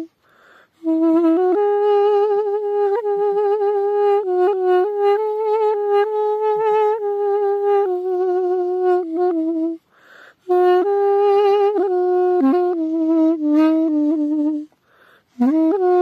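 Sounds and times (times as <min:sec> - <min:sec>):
double-reed pipe melody: 0:00.0 - 0:16.0.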